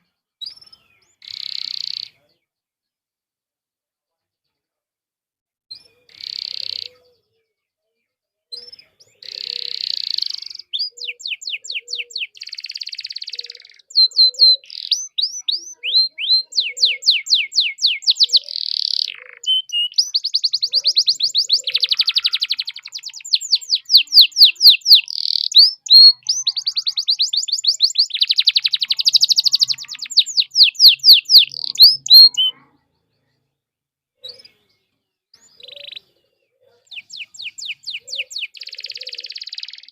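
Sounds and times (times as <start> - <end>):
canary singing trills: 0.4 - 2.3, 5.7 - 7.4, 8.6 - 33.4, 34.2 - 39.9.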